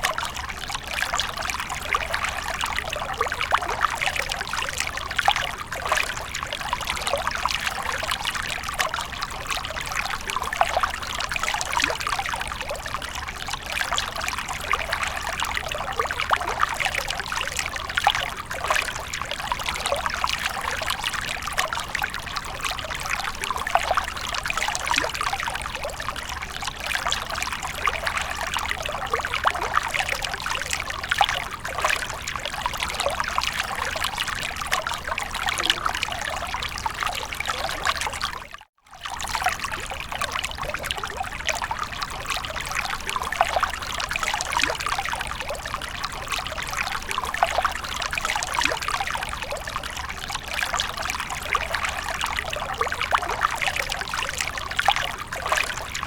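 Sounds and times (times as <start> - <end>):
fountain water trickling and splashing: 0.0 - 56.0.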